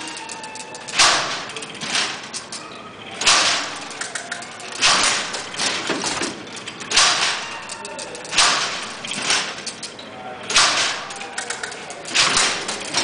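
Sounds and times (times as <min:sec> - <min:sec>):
metal mechanism rattling and clacking: 0:00.0 - 0:13.0.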